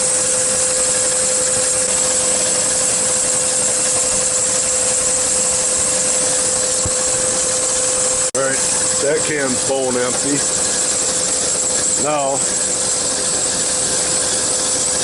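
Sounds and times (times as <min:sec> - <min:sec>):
compressor hum: 0:00.0 - 0:15.0.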